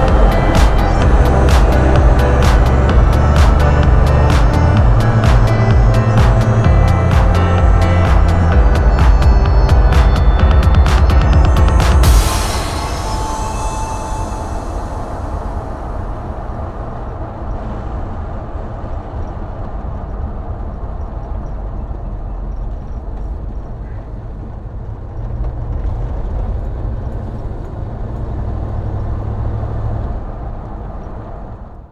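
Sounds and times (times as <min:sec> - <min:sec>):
car engine and exhaust rumble: 0:00.0 - 0:31.9
road noise: 0:00.0 - 0:31.9.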